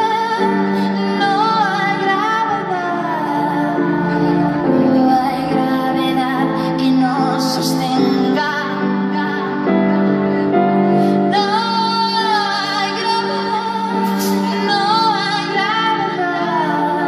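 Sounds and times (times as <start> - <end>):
woman singing pop song: 0.0 - 17.0.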